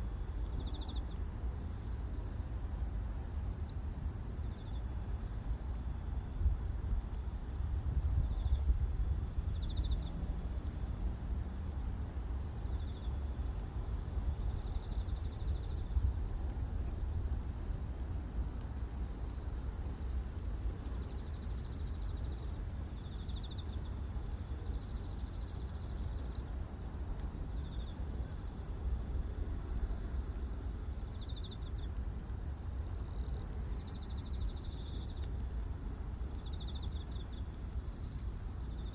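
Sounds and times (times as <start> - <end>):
insect steady high-pitched trill: 0.0 - 38.9.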